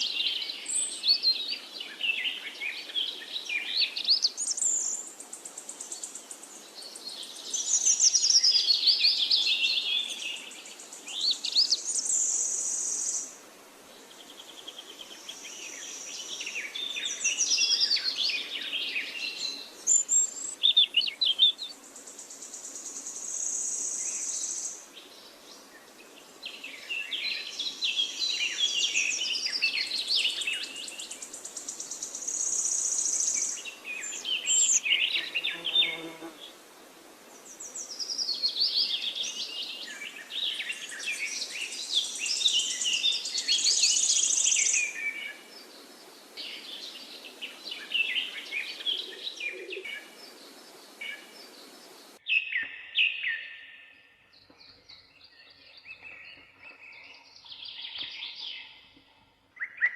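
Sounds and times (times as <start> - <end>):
outdoor background hiss: 0.0 - 56.6, 57.2 - 59.8
songbirds chirping and trilling: 0.0 - 59.9.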